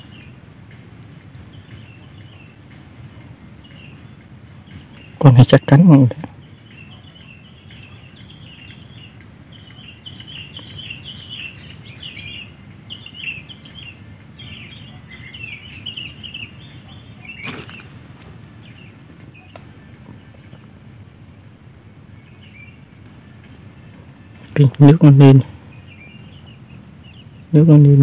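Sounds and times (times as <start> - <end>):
low steady background noise: 0.0 - 28.0
small birds chirping: 0.0 - 28.0.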